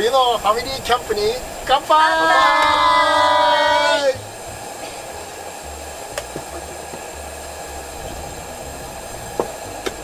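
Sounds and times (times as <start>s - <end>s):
lanterns hissing: 0.0s - 10.0s.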